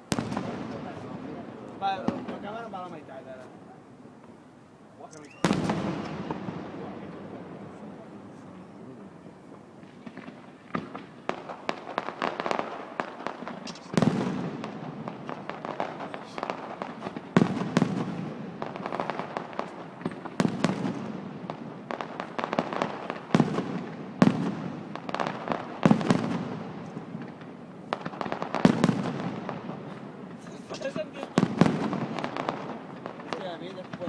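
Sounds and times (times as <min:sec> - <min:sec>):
fireworks bangs with crackle: 0:00.0 - 0:34.0.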